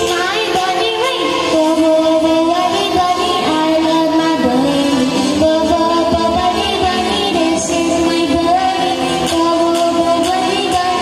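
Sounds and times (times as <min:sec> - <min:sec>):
girl singing through loudspeakers: 0:00.0 - 0:11.0
pop backing track with beat: 0:00.0 - 0:11.0.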